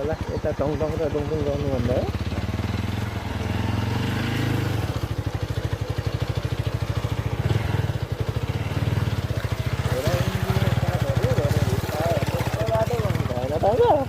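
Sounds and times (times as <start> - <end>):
motorcycle engine puttering: 0.0 - 14.0.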